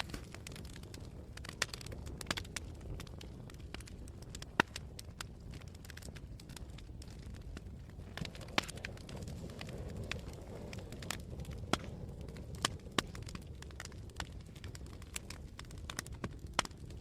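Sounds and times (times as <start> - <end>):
campfire crackling and popping: 0.0 - 17.0
low rumble of flame: 0.0 - 17.0
wind: 0.0 - 17.0.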